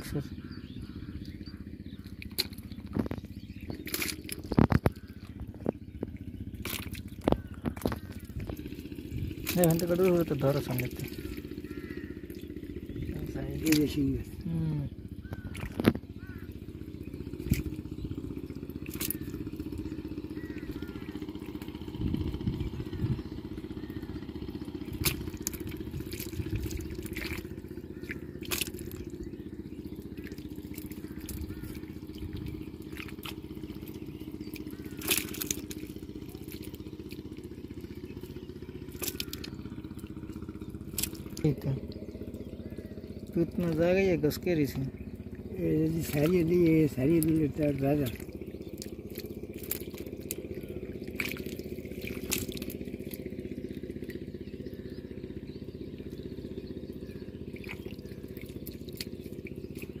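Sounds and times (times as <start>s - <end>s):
hands squelching in wet mud: 0.0s - 60.0s
water pump chugging: 0.0s - 60.0s.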